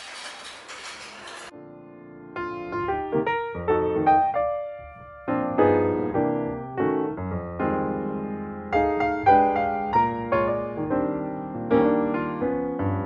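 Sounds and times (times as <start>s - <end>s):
piano music: 1.5s - 13.0s.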